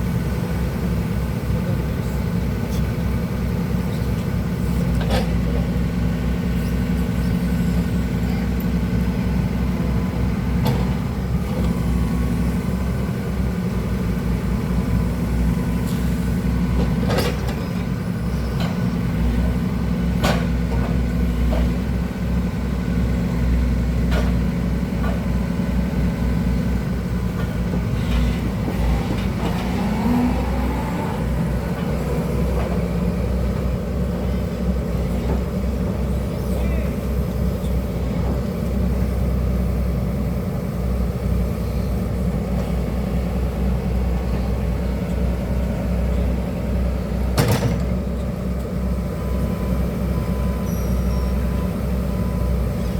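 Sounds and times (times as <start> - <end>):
excavator diesel engine droning: 0.0 - 52.9.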